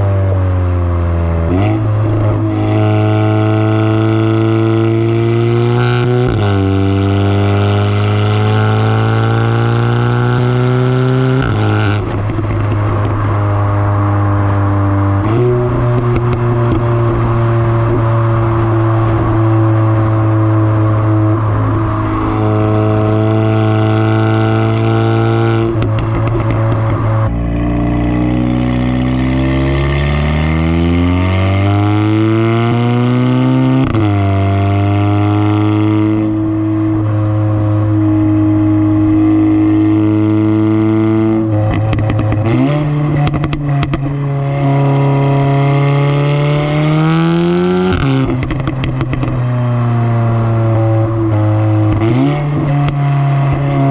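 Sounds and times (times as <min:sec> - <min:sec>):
car engine and exhaust accelerating: 0:00.0 - 0:53.9.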